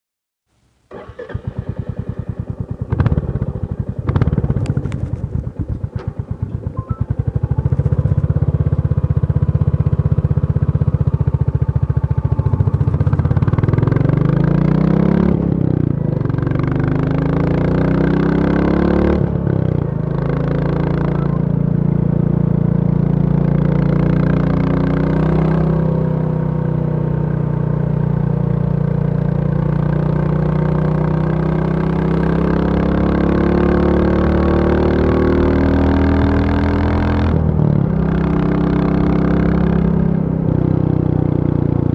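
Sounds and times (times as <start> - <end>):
motorcycle engine idling and revving: 0.8 - 41.9.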